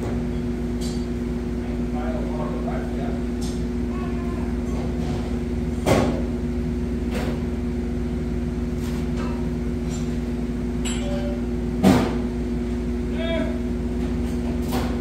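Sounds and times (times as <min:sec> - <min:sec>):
machine hum with low rumble: 0:00.0 - 0:15.0.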